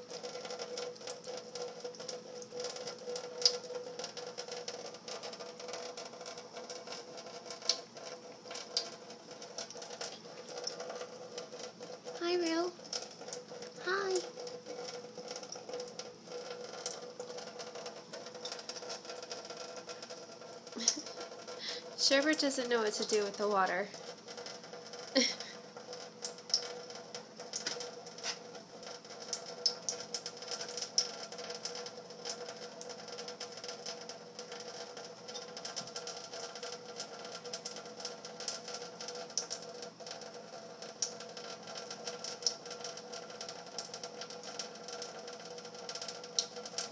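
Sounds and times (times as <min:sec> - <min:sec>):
small ticks and splashes: 0:00.0 - 0:46.9
tap water running into steel sink: 0:00.0 - 0:46.9.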